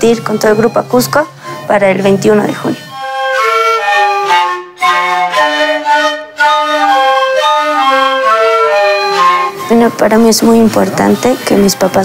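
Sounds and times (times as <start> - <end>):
flute melody: 0.0 - 12.0.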